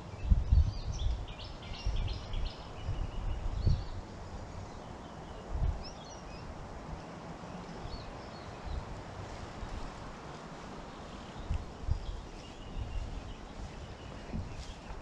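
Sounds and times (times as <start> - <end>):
small birds chirping: 0.0 - 15.0
wind buffeting microphone: 0.0 - 15.0.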